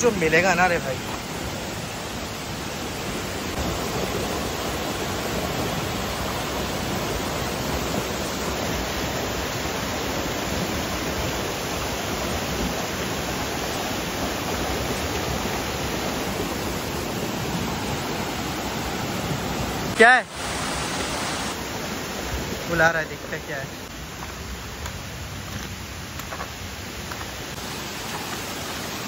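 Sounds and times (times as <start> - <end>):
waterfall and stream rushing: 0.0 - 29.0.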